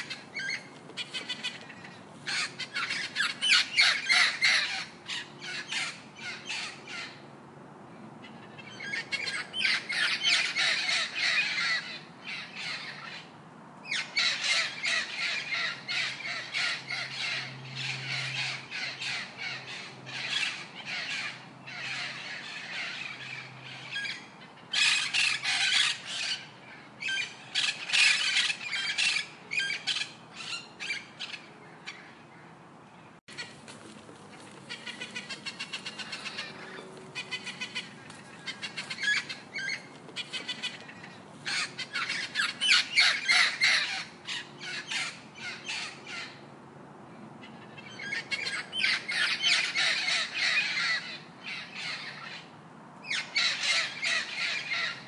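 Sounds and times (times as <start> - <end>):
birds squawking and calling: 0.0 - 7.3, 7.9 - 55.0.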